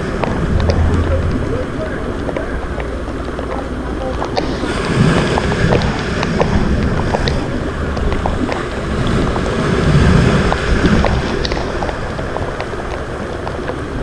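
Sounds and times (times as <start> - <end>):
rough sea waves: 0.0 - 14.0
wind rumbling on microphone: 0.0 - 14.0.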